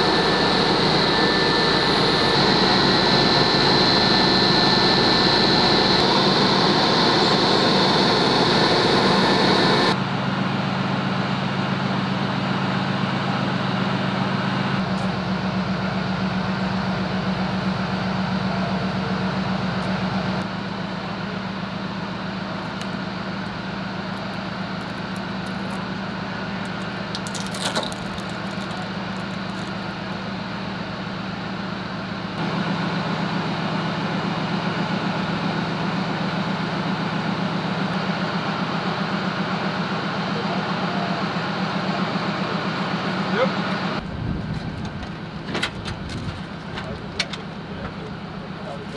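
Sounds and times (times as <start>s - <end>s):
loud high whine: 0.0s - 46.7s
diesel engines idling: 0.0s - 48.9s.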